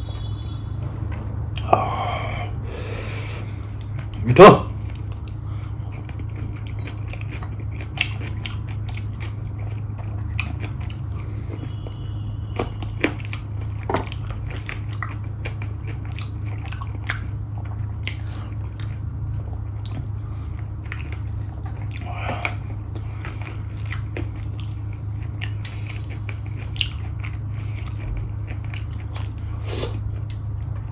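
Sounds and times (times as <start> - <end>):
steady low hum: 0.0 - 30.9
person chewing food: 1.5 - 30.9.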